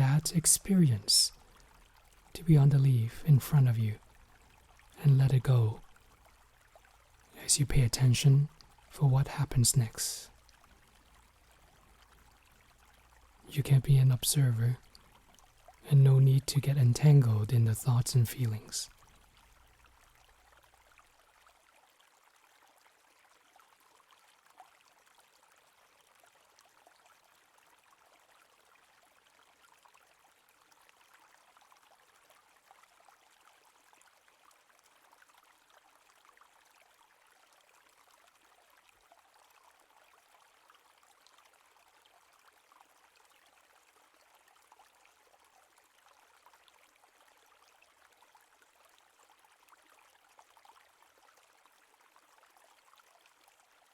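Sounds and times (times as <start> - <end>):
faint babbling stream: 0.0 - 53.9.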